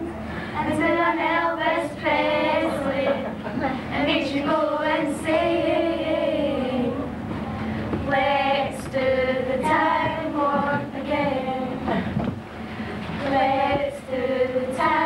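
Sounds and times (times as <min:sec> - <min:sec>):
group of young voices singing: 0:00.6 - 0:07.2, 0:08.0 - 0:12.3, 0:13.0 - 0:15.0.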